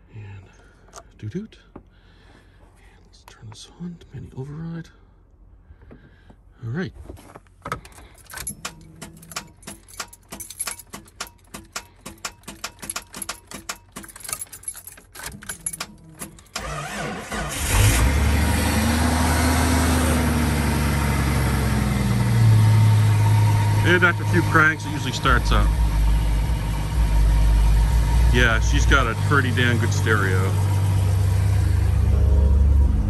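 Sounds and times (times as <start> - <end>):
car engine cranking and idling: 0.2 - 6.4, 7.2 - 33.0.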